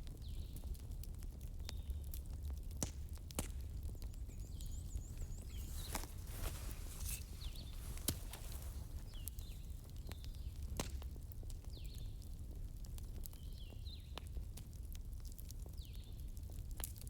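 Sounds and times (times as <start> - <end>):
wood fire crackling: 1.0 - 17.0.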